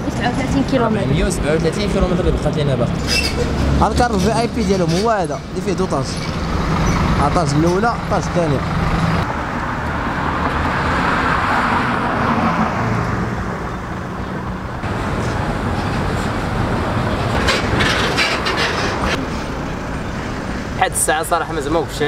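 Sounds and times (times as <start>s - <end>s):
heavy truck passing: 0.0s - 22.0s
highway traffic passing: 0.0s - 22.0s.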